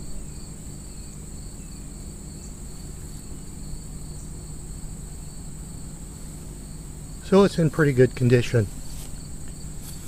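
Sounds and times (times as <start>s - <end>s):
insect trilling: 0.0s - 10.0s
low steady hum: 0.0s - 10.0s.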